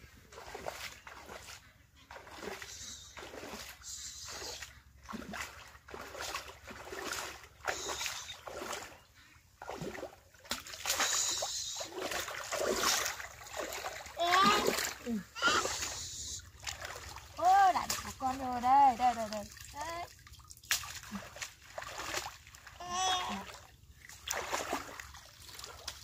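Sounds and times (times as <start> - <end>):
pond water splashing: 0.0 - 26.0.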